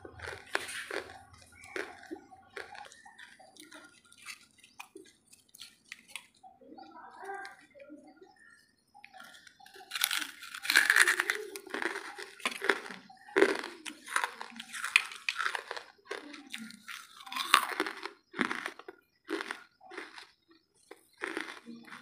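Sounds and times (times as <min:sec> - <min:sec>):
person chewing charcoal crunches: 0:00.0 - 0:06.5, 0:08.4 - 0:22.0.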